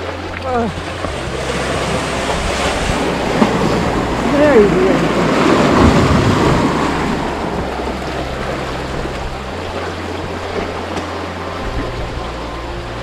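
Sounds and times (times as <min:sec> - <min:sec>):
waves splashing over rocks: 0:00.0 - 0:13.0.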